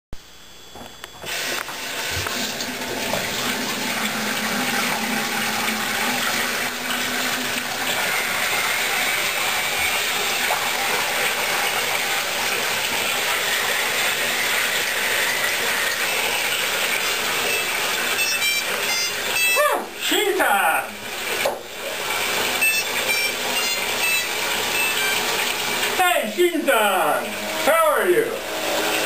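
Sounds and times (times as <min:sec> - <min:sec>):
faucet water streaming into basin: 0:01.2 - 0:29.0.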